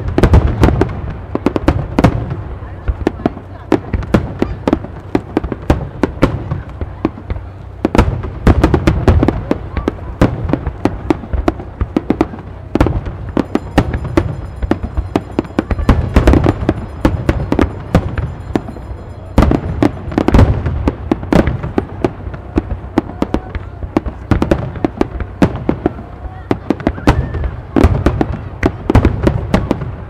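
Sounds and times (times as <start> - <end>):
fireworks booming and cracking: 0.0 - 30.0.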